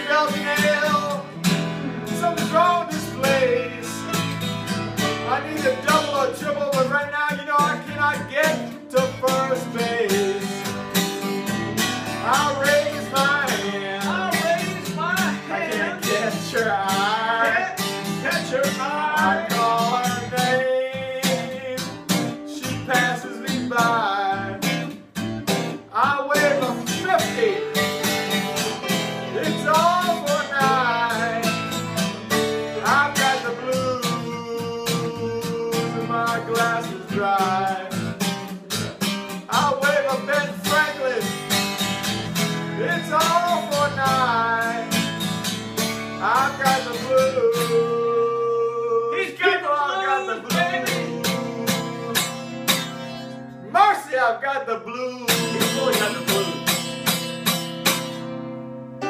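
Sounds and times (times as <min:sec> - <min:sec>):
acoustic guitars strumming: 0:00.0 - 0:59.0.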